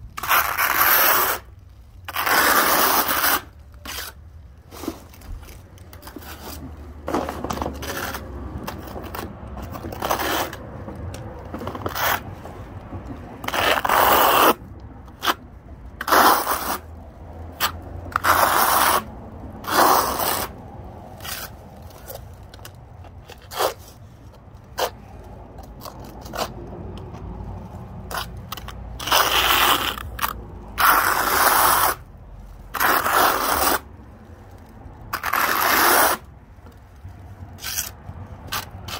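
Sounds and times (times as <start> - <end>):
trowel scraping on concrete: 0.2 - 15.4, 16.0 - 16.9, 17.5 - 33.9, 34.5 - 38.9.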